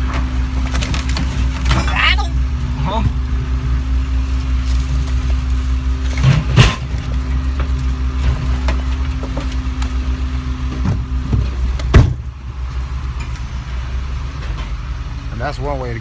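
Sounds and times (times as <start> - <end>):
heavy vehicle engine running: 0.0 - 16.0.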